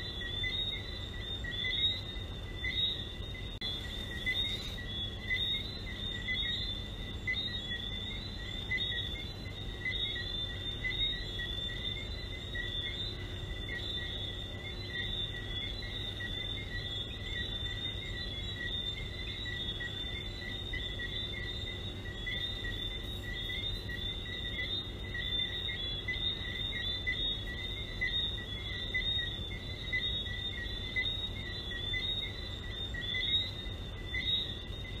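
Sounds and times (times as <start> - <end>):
frogs chirping: 0.0 - 35.0
steady low hum: 0.0 - 35.0.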